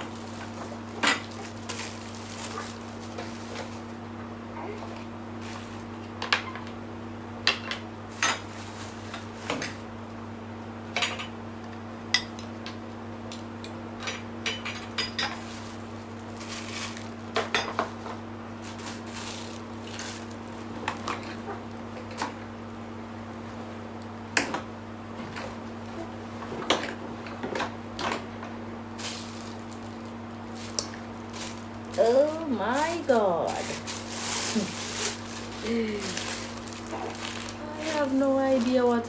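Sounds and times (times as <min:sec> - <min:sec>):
steady low hum: 0:00.0 - 0:09.1, 0:13.9 - 0:39.0.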